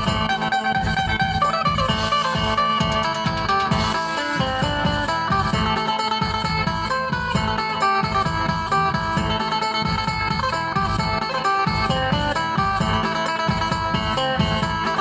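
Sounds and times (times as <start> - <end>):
low bass accompaniment: 0.0 - 15.0
plucked lute melody: 0.0 - 15.0.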